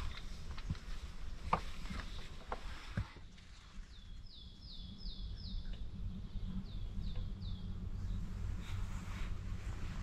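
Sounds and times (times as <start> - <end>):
songbird singing: 0.0 - 10.0
steady low rumble: 0.0 - 10.0.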